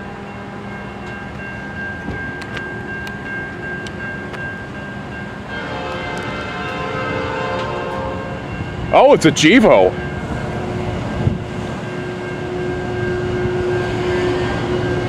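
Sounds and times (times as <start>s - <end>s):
steady high train tone: 0.0s - 15.0s.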